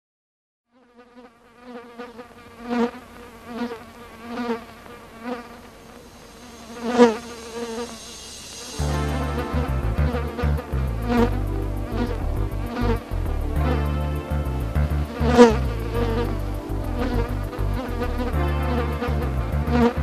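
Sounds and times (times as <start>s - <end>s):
fly buzzing: 0.7s - 20.0s.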